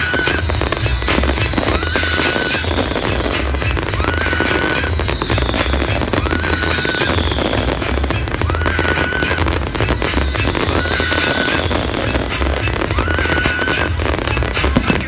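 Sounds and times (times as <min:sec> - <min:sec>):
fireworks crackling and popping: 0:00.0 - 0:15.0
music playing: 0:00.0 - 0:15.0.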